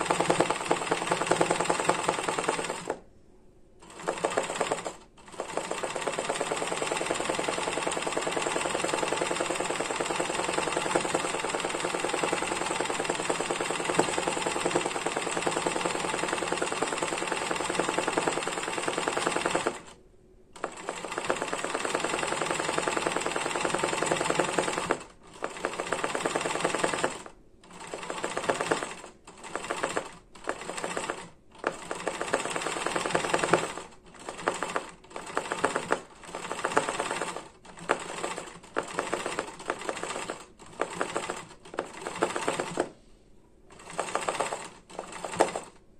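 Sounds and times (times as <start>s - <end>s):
sewing machine stitching: 0.0s - 3.0s, 3.8s - 20.0s, 20.6s - 43.0s, 43.7s - 45.8s.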